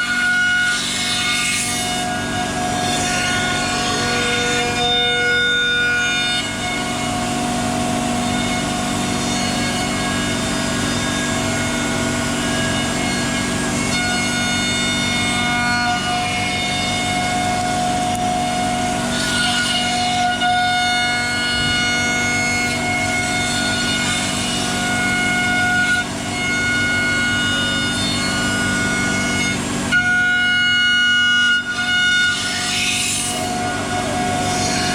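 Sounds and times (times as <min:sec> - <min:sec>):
cnc router whine: 0:00.0 - 0:34.9
router cutting wood: 0:00.0 - 0:34.9.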